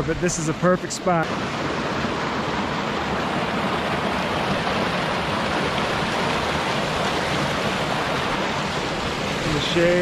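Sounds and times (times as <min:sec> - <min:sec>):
stream rushing over rocks: 0:00.0 - 0:10.0.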